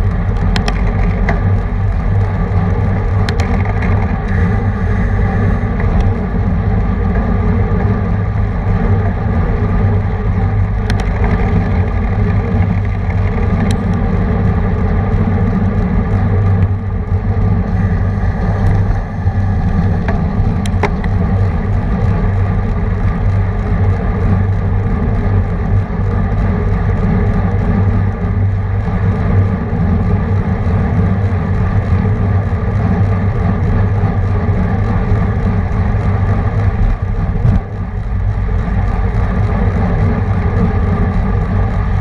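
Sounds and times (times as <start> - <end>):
bike clicking: 0.0 - 42.0
road noise: 0.0 - 42.0
wind rush: 0.0 - 42.0.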